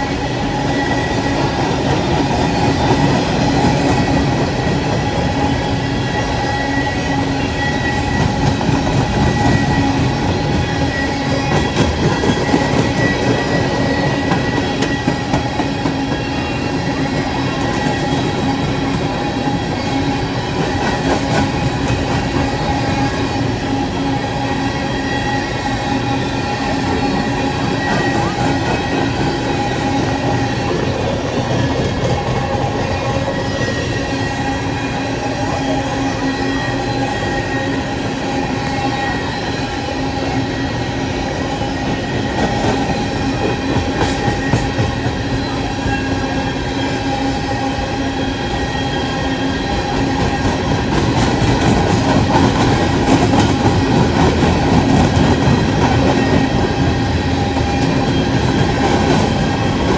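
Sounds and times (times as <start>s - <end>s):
steel wheels rumbling on rails: 0.0s - 59.9s
thin whining tones: 0.0s - 59.9s.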